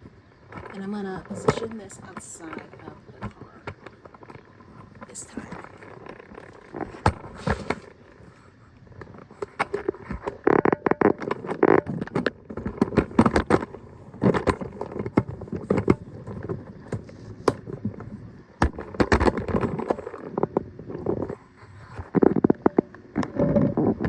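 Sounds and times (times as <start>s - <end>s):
objects being handled: 0.0s - 24.0s.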